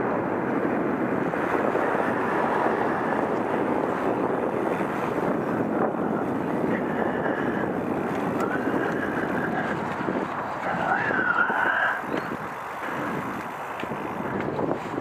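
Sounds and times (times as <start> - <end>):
wind rushing on helmet camera: 0.0 - 15.0.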